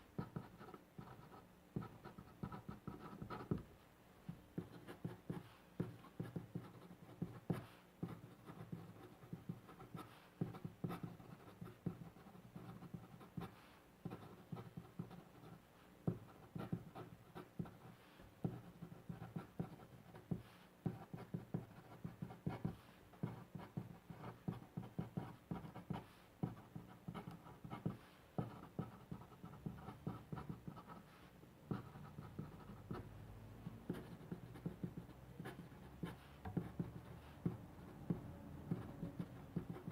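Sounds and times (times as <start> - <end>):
pen scratching on paper: 0.2 - 3.7, 4.3 - 31.1, 31.7 - 39.9.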